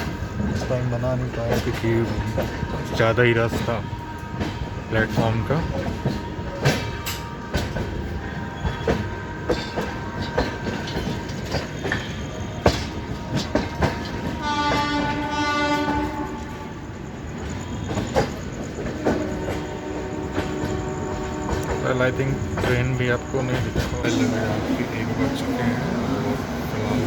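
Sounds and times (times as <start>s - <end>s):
train rumble: 0.0s - 27.0s
train wheels clicking over rail joints: 0.0s - 27.0s
train horn: 3.6s - 18.2s, 18.8s - 27.0s.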